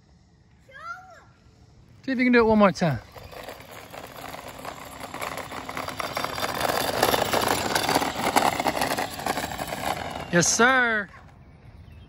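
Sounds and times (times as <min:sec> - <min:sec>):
scooter wheels rolling on asphalt: 0:01.6 - 0:12.0.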